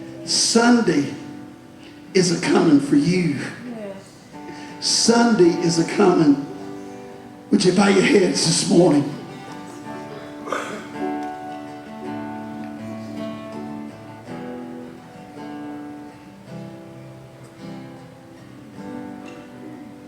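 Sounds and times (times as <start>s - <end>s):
soft instrumental music: 3.8s - 20.0s.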